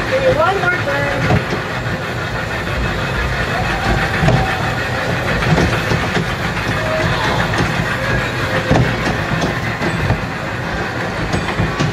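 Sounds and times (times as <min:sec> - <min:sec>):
small train wheels and motor rumbling: 0:00.0 - 0:11.9.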